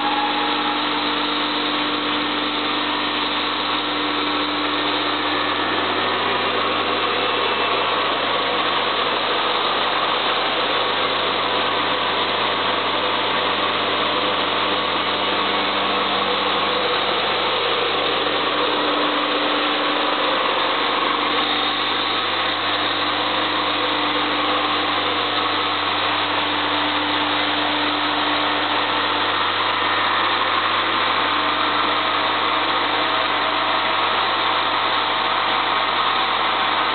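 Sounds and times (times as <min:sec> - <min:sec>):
industrial vacuum running: 0:00.0 - 0:36.9.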